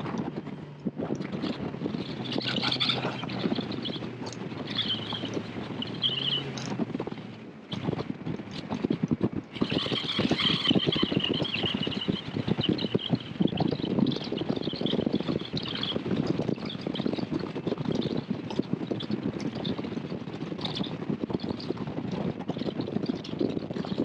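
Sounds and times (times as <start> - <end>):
hull slapping on waves: 0.0 - 23.8
outboard motor humming: 0.0 - 24.0
wind on microphone: 0.0 - 24.0.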